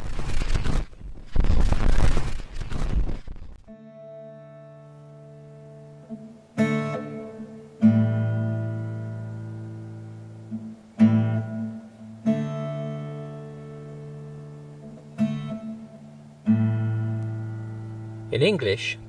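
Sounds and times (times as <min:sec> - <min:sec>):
acoustic guitar chords strummed: 0:03.7 - 0:19.0.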